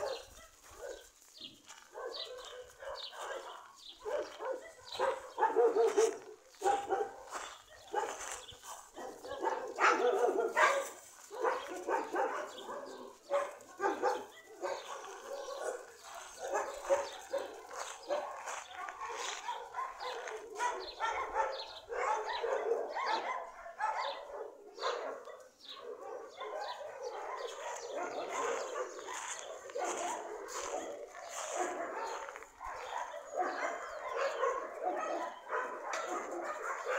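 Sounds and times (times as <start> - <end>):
dogs barking: 0.0 - 36.9.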